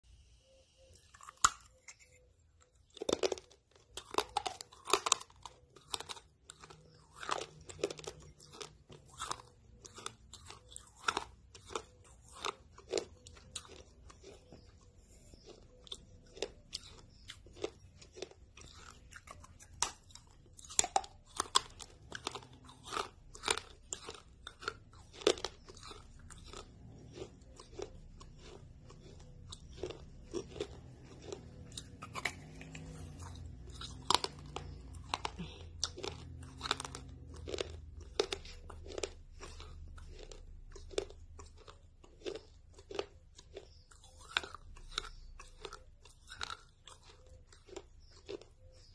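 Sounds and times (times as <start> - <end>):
soft chewing: 0.5 - 48.9
crunching crispy snack: 0.9 - 48.9.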